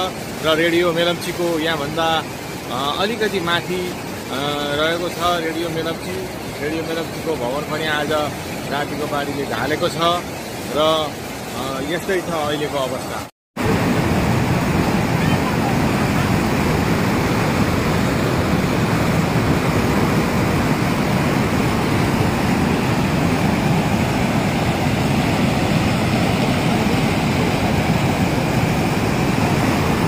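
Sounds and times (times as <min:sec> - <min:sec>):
river rushing in flood: 0:00.0 - 0:30.0.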